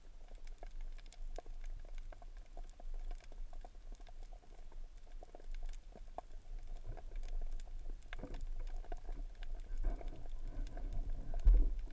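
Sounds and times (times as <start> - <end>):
muffled underwater rumble: 0.0 - 11.9
sharp clicks and crackles: 0.0 - 11.9.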